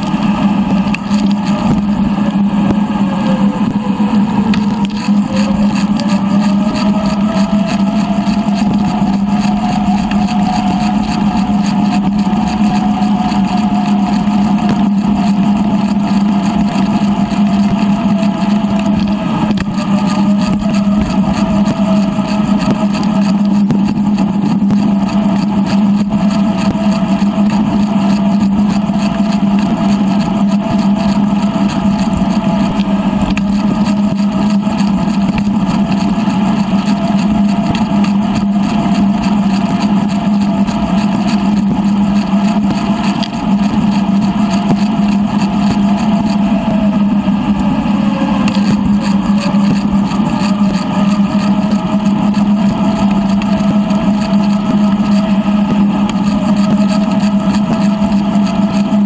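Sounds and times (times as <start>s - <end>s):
bicycle riding noise drone: 0.0s - 59.0s.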